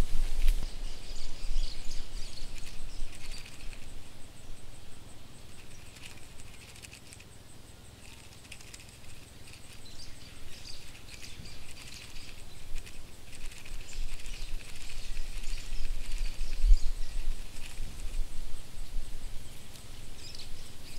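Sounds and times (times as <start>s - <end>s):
cockroach skittering: 0.0s - 20.9s.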